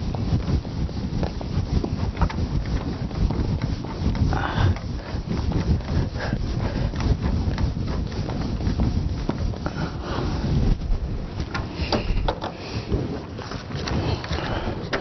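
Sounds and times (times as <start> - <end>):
duster scrubbing whiteboard: 0.0 - 15.0.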